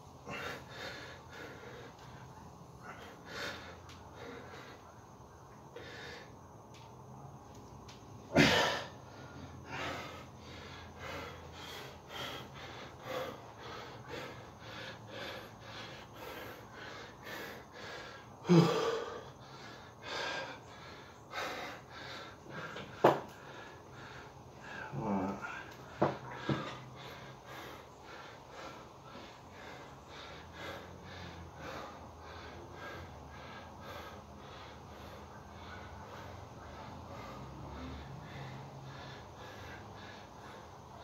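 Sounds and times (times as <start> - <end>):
man panting hard: 0.0 - 7.1, 8.2 - 41.0
loud gasping breaths: 0.2 - 5.0, 8.3 - 41.0.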